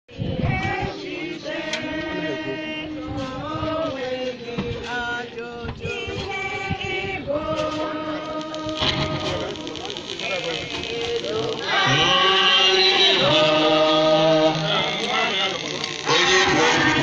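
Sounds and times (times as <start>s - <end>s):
voices chanting held notes: 0.1s - 17.0s.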